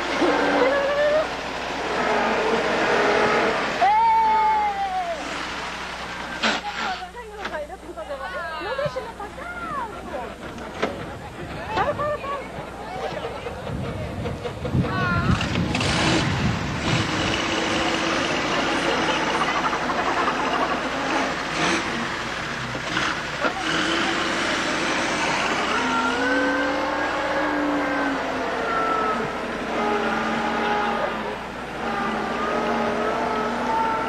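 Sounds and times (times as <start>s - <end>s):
car engine running: 0.0s - 3.9s, 5.0s - 34.0s.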